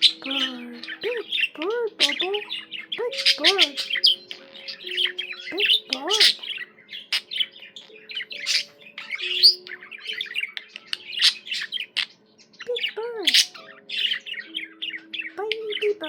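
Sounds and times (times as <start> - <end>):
budgerigar chirping and squawking: 0.0 - 16.0.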